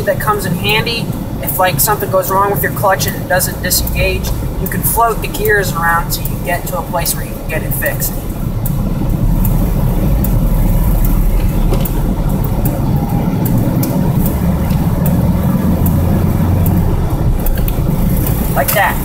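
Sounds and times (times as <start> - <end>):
car engine running: 0.0 - 19.0
gearbox shifting: 0.0 - 19.0.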